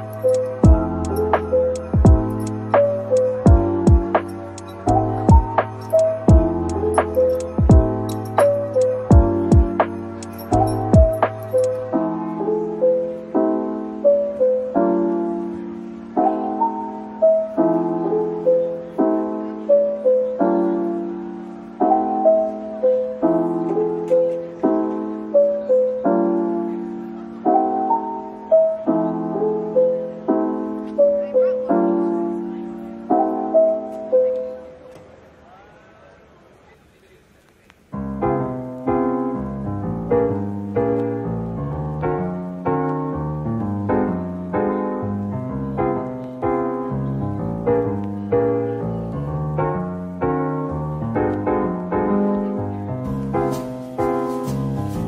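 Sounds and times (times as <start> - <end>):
slow piano piece: 0.0 - 35.4, 37.8 - 55.0.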